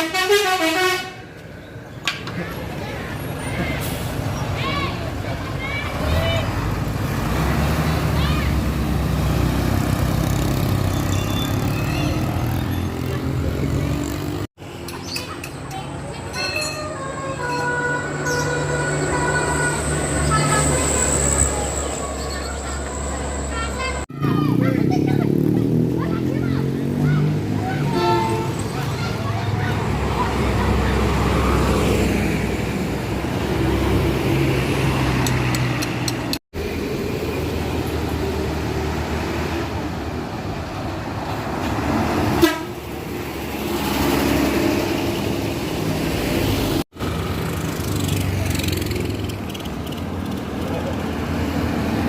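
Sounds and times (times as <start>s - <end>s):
bus diesel engine rumbling: 0.0s - 52.0s
road noise: 0.0s - 52.0s.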